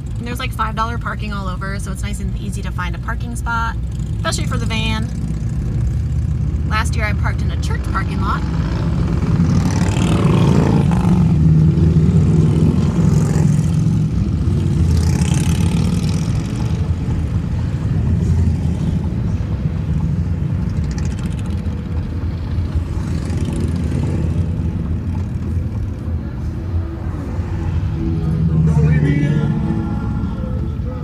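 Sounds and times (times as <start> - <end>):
traffic engines rumbling: 0.0 - 31.0
vehicles passing: 0.0 - 31.0.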